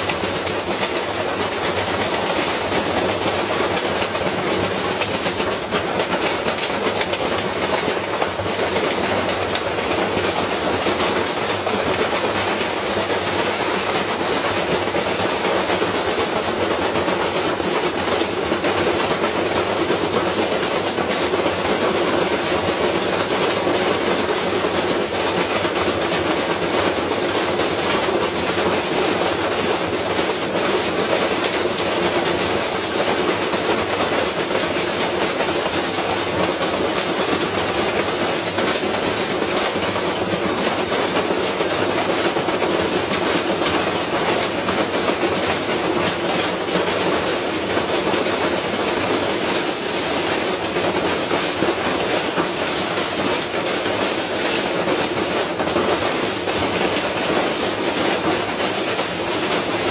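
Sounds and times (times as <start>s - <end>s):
loud rapid clatter and banging: 0.0s - 59.9s.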